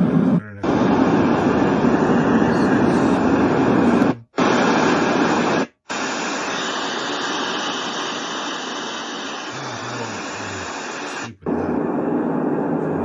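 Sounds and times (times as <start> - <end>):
white noise machine: 0.0 - 13.0.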